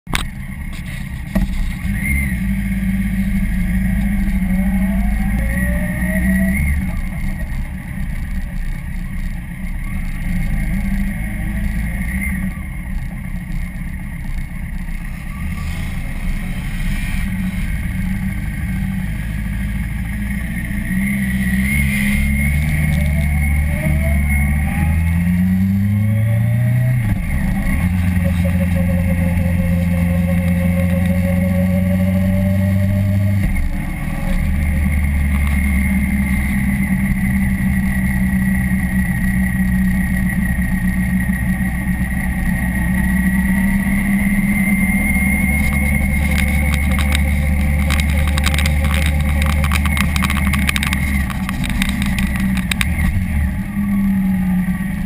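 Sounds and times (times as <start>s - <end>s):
motorcycle engine revving: 0.2s - 55.0s.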